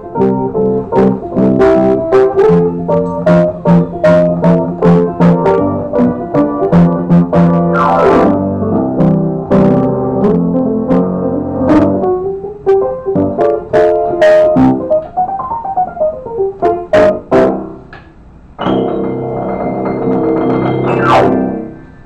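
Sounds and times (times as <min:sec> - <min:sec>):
solo upright piano: 0:00.0 - 0:22.0.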